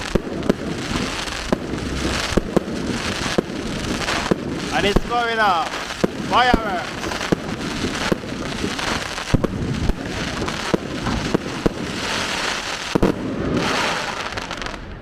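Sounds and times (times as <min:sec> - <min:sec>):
fireworks bangs and cracks: 0:00.0 - 0:15.0
fireworks crackling: 0:00.0 - 0:15.0.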